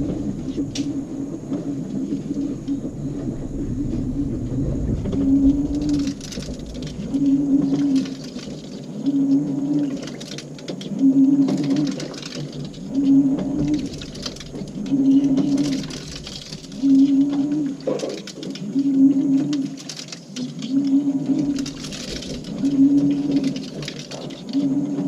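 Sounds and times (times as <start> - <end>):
washing machine motor humming: 0.0 - 25.0
wet clothes and water tumbling: 0.0 - 25.0.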